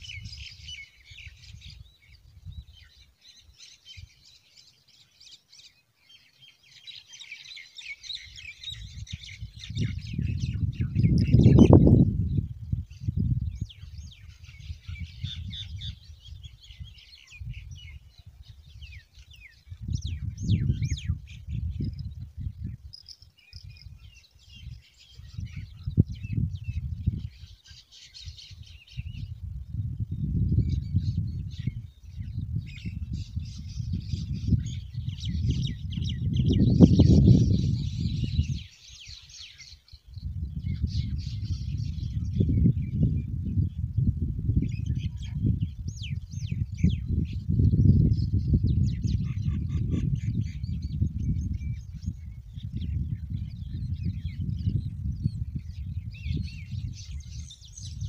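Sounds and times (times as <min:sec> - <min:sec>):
wind buffeting microphone: 0:00.0 - 0:05.0, 0:07.4 - 0:58.0
small birds chirping: 0:00.0 - 0:58.0.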